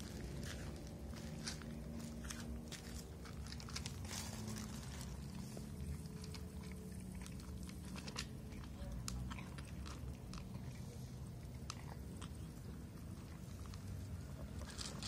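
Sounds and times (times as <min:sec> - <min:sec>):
cats crunching dry kibble: 0:00.0 - 0:15.0
low steady hum: 0:00.0 - 0:15.0.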